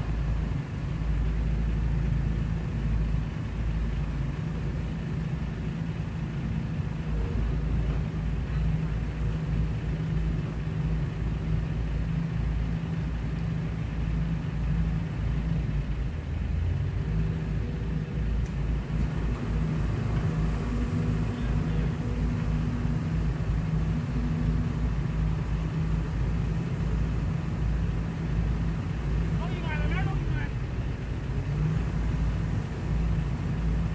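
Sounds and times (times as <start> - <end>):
excavator diesel engine drone: 0.0 - 33.9.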